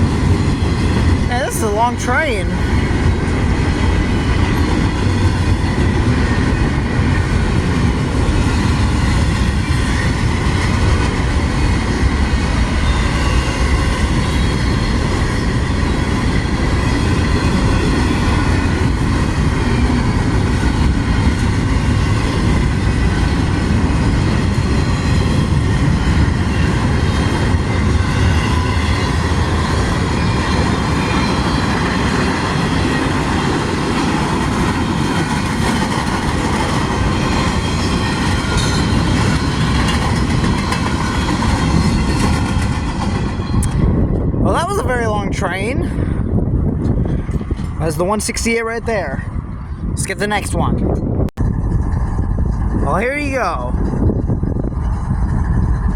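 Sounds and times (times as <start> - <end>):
freight train wheels rumbling on rails: 0.0 - 55.9.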